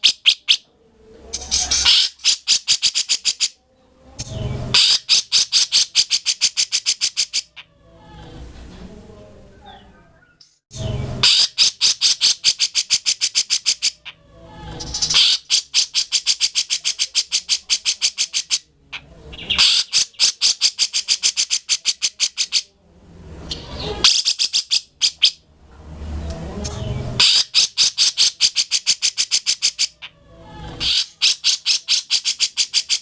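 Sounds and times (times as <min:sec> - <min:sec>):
bird chattering song: 0:00.0 - 0:00.7, 0:01.3 - 0:03.6, 0:04.2 - 0:07.7, 0:09.6 - 0:14.2, 0:14.8 - 0:22.7, 0:23.5 - 0:25.4, 0:26.7 - 0:30.1, 0:30.8 - 0:33.0.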